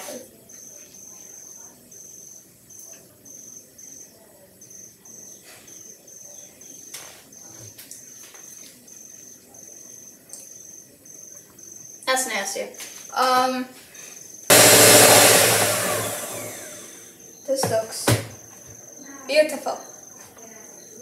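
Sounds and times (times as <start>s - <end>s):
cricket chirping: 0.0s - 14.5s, 16.2s - 21.0s.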